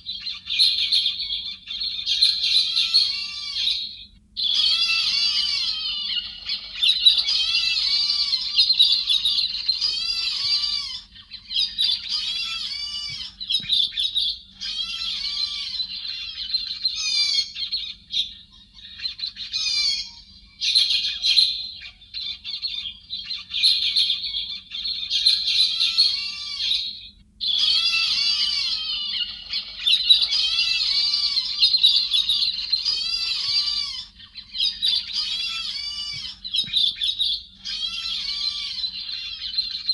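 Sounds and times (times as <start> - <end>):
birds chattering calls: 0.0 - 39.9
faint steady hum: 0.0 - 39.9.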